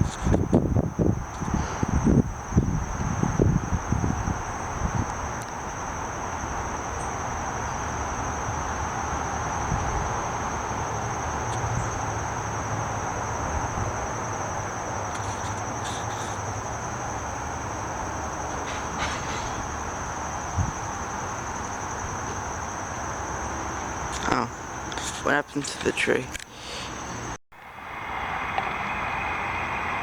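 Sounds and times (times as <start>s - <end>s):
insects trilling: 0.0s - 30.0s
rumbling hiss: 0.0s - 30.0s.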